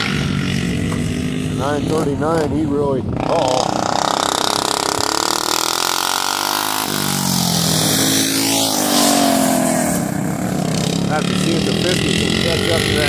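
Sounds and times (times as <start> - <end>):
kart passing close: 0.0 - 13.0
racing lawnmower engines: 0.0 - 13.0.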